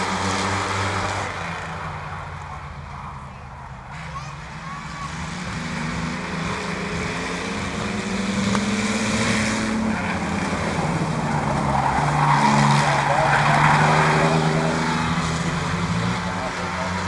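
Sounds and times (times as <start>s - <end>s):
race truck engines: 0.0s - 17.0s.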